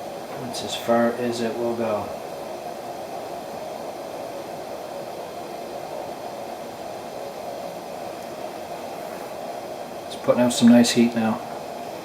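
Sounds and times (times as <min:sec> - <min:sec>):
kerosene heater flame hissing: 0:00.0 - 0:12.0.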